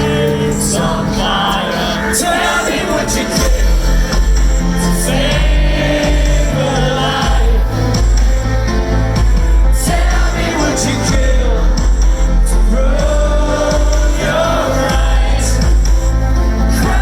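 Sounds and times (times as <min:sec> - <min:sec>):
live rock band playing: 0:02.2 - 0:17.0.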